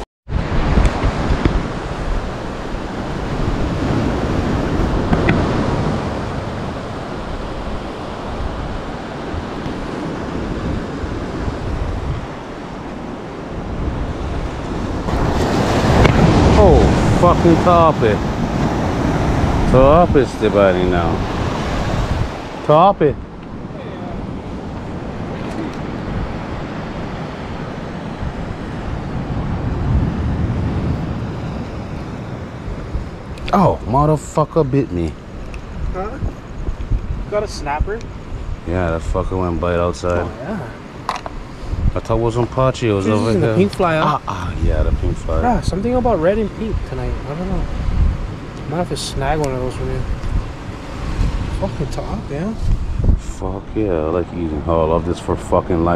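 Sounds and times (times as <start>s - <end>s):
ocean surf washing: 0.0s - 55.9s
wind buffeting microphone: 0.0s - 55.9s.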